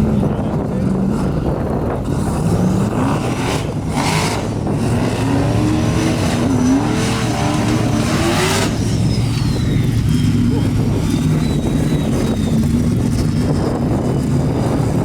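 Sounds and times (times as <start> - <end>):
buggy engine revving: 0.0 - 15.0.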